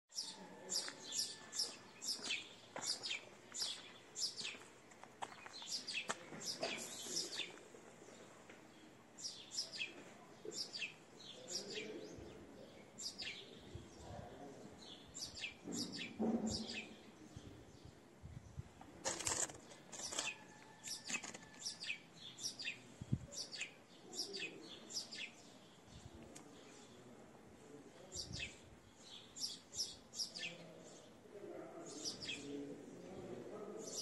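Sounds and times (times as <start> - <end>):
small birds chirping: 0.1 - 18.0, 18.6 - 31.2.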